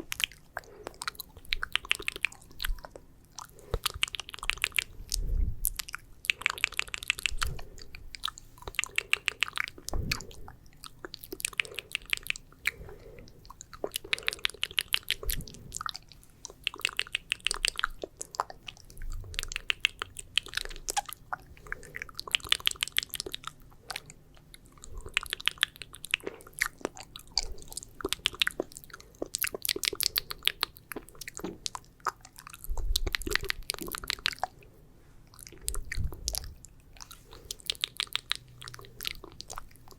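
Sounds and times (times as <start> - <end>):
wet mouth clicks and smacks: 0.0 - 34.6, 35.3 - 39.9.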